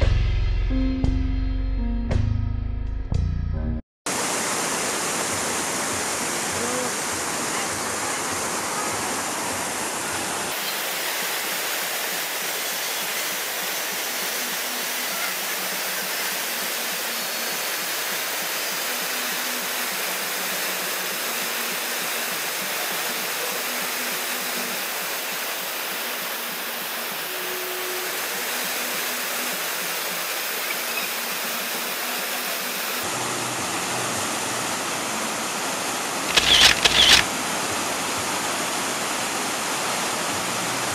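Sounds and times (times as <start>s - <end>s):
waterfall rushing into pool: 4.1s - 40.9s.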